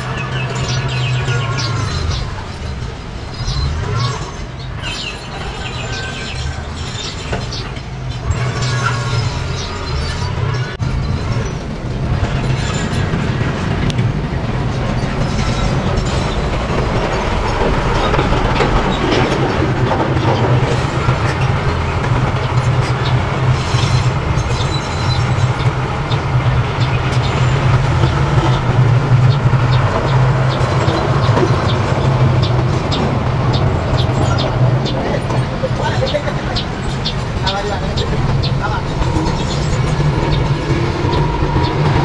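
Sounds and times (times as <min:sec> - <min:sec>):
diesel engine rumble: 0:00.0 - 0:42.0.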